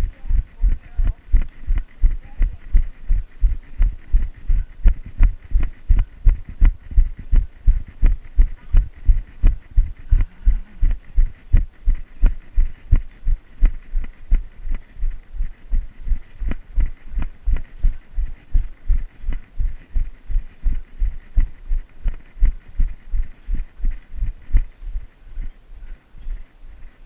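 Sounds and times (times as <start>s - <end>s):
footsteps running on a trail: 0.0s - 27.0s.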